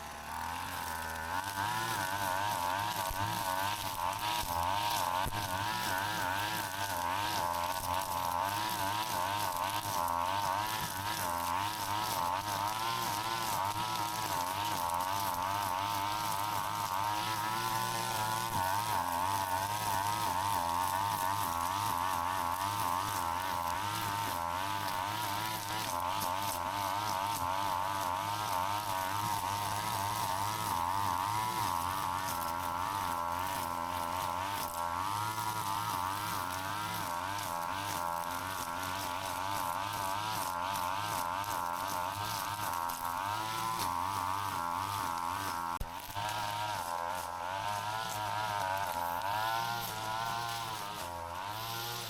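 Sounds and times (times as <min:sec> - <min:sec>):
brush cutter engine cutting grass: 0:00.0 - 0:52.0.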